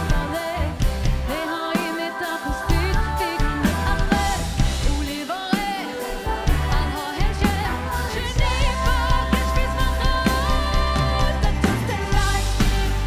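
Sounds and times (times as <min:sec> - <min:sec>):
bass guitar: 0:00.0 - 0:01.4, 0:02.5 - 0:05.2, 0:06.2 - 0:13.0
drums keeping a steady beat: 0:00.0 - 0:13.0
live pop band: 0:00.0 - 0:13.0
woman singing into a microphone: 0:00.0 - 0:13.0.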